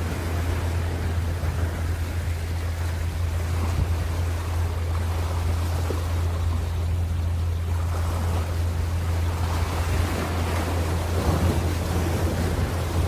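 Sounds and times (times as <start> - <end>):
ocean waves breaking: 0.0 - 13.0
steady low hum: 0.0 - 13.0.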